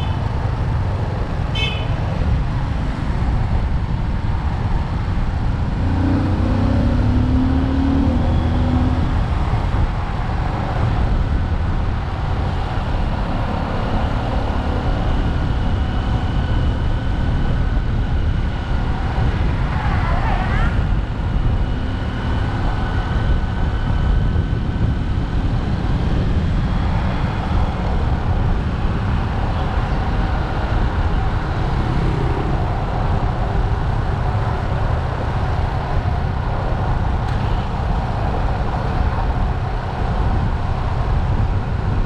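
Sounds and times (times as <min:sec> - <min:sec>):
wind rumble on microphone: 0:00.0 - 0:42.0.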